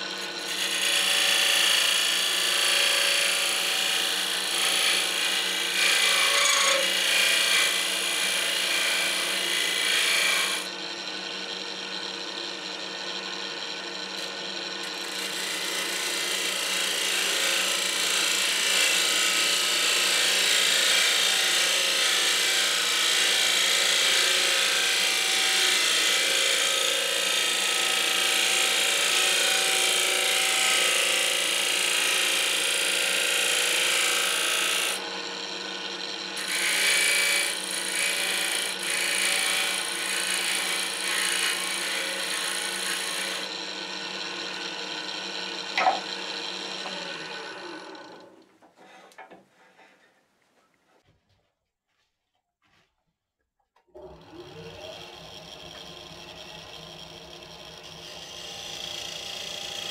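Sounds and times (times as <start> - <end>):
gouge cutting spinning wood: 0.0 - 49.0, 54.0 - 59.9
wood lathe humming: 0.0 - 49.4, 54.0 - 59.9.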